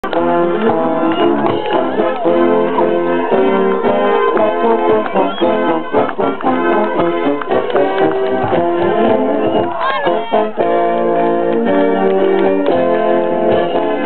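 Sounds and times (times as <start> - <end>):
brass horns playing chords: 0.0 - 14.0.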